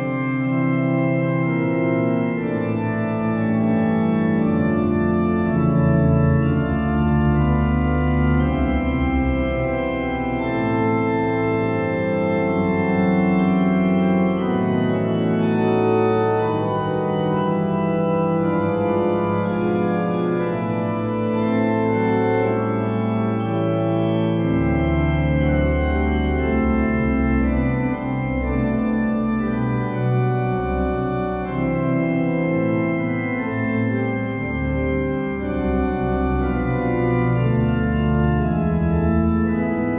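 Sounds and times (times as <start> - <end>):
slow organ music: 0.0 - 39.9.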